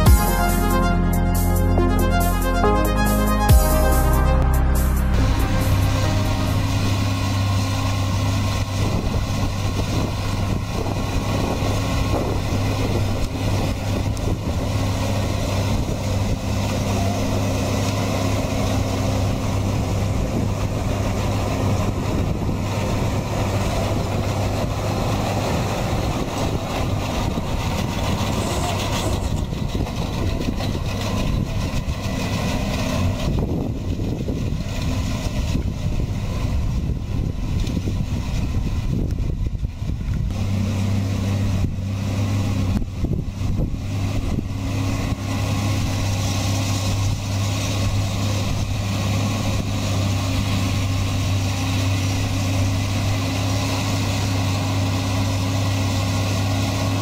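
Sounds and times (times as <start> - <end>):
pickup gathering grass: 0.0 - 57.0
tractor engine running: 0.0 - 57.0.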